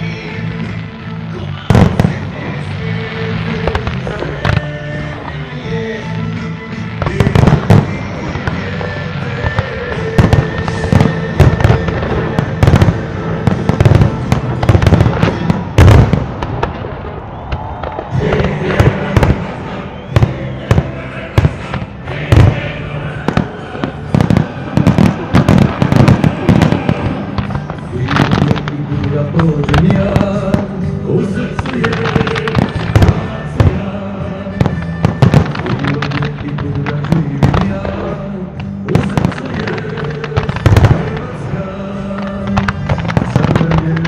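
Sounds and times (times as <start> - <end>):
music soundtrack: 0.0 - 44.0.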